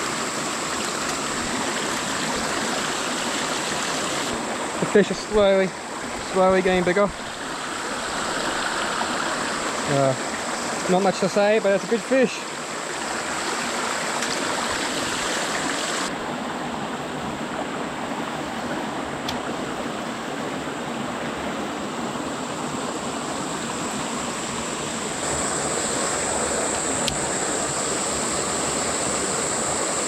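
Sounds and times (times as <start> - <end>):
creek splashing over rocks: 0.0 - 30.0.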